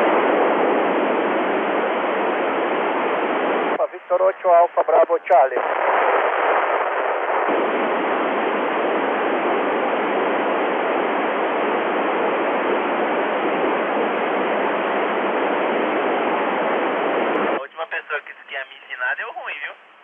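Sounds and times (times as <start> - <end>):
radio static hiss: 0.0 - 19.9.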